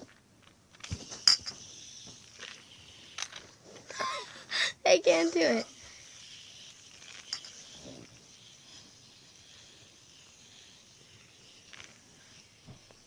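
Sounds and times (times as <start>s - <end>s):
fidget spinner clicking: 0.0s - 4.3s, 4.9s - 13.0s
faint steady hiss: 0.0s - 13.0s.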